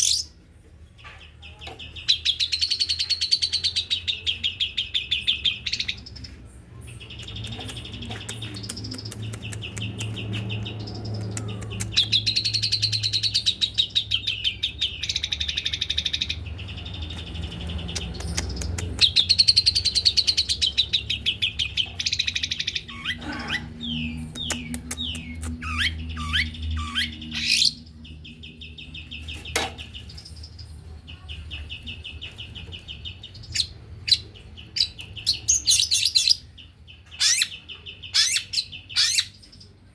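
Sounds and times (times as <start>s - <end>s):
bird singing rapid trills: 0.0s - 0.4s, 6.9s - 39.8s.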